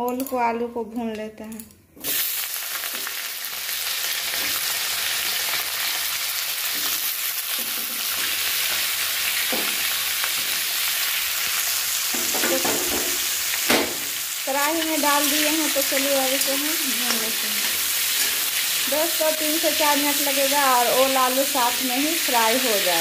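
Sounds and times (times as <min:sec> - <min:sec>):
vegetables frying in oil: 0:02.0 - 0:23.0.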